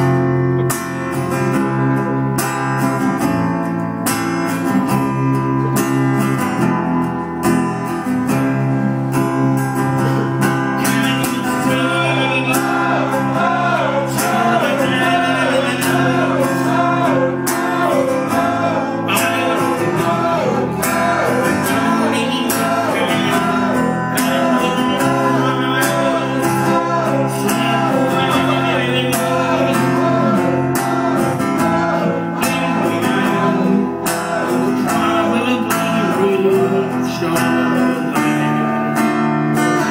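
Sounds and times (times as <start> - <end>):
electric bass: 0.0 - 38.1
acoustic guitar strumming: 0.0 - 39.9.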